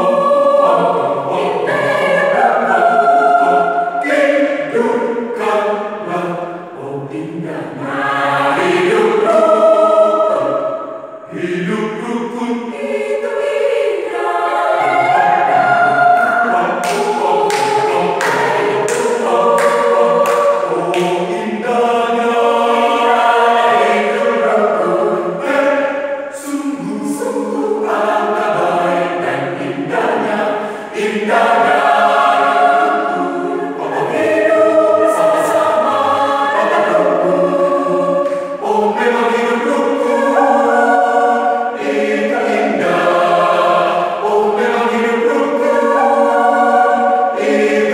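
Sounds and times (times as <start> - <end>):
mixed choir singing: 0.0 - 47.9.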